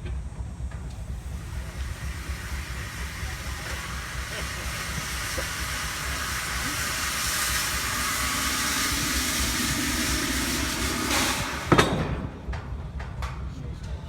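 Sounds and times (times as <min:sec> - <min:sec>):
rapid low pulsing: 0:00.0 - 0:13.6
steam hammer hissing: 0:01.0 - 0:13.0.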